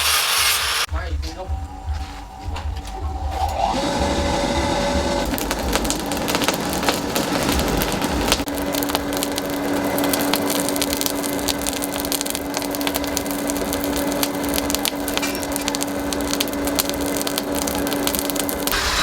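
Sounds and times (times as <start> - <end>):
power tool motor hum: 3.4 - 19.0
wood crackling and splintering: 3.4 - 19.0.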